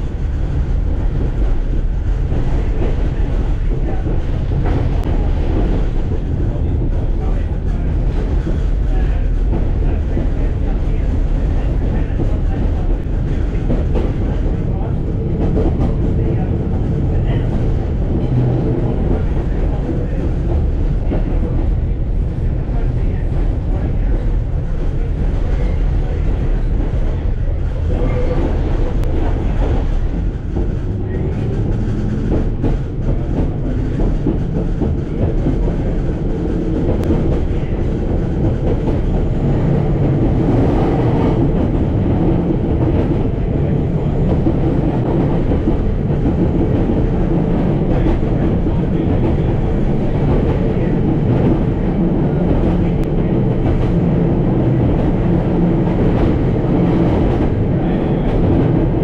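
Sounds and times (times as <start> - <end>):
tram wheels on rails: 0.0 - 59.0.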